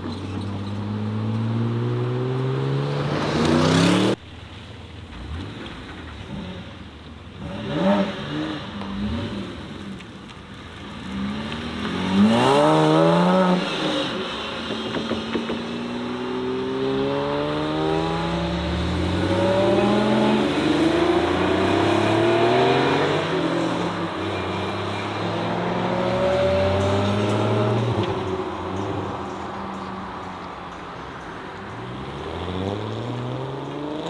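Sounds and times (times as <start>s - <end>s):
car engines revving: 0.0s - 4.2s, 4.8s - 34.0s.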